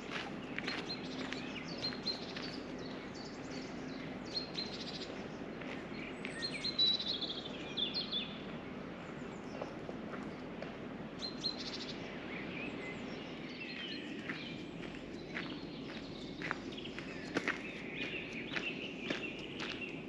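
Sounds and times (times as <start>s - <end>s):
low outdoor background: 0.0s - 20.0s
small birds chirping and singing: 0.0s - 20.0s.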